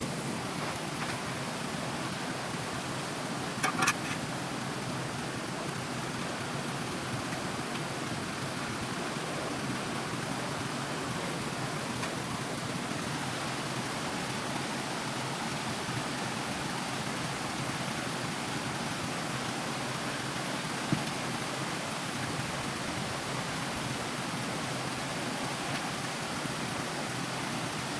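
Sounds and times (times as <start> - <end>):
stream water rushing: 0.0 - 27.9.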